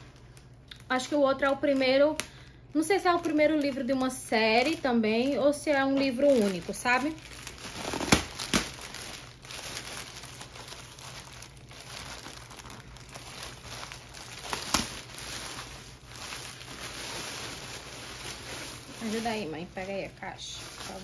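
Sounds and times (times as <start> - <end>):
plastic bag crinkling: 0.0 - 21.0
sharp plastic crackle: 0.0 - 21.0.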